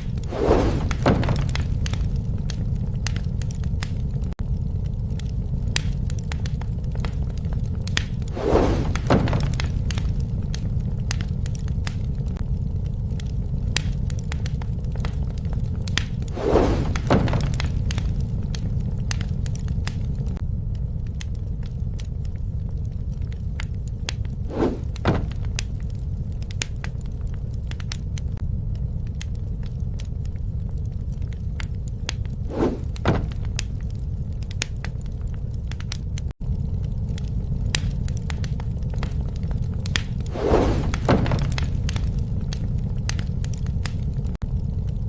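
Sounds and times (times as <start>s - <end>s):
fire crackling and popping: 0.0s - 45.0s
wood fire burning: 0.0s - 45.0s.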